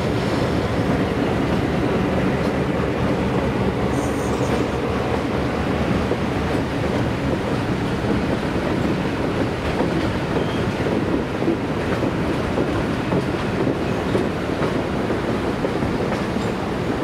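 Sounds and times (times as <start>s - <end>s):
passenger train rolling past: 0.0s - 17.0s.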